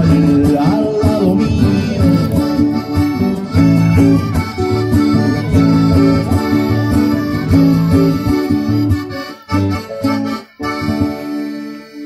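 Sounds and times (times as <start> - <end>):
accordion chords: 0.0 - 12.0
acoustic guitar strumming: 0.0 - 12.0.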